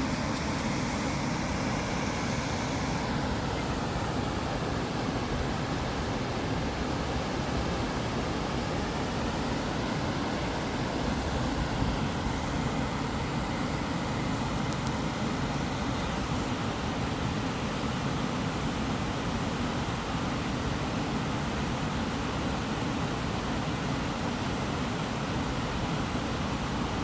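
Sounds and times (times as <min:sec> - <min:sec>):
white noise hiss with low rumble: 0:00.0 - 0:27.0.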